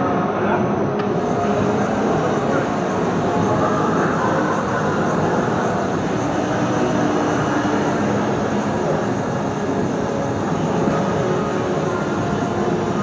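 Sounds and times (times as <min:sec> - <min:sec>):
machinery running in a hall: 0:00.0 - 0:13.0.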